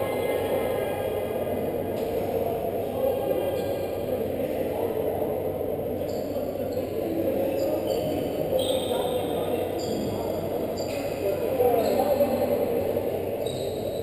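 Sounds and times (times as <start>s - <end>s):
crowd chatter echoing: 0.0s - 14.0s.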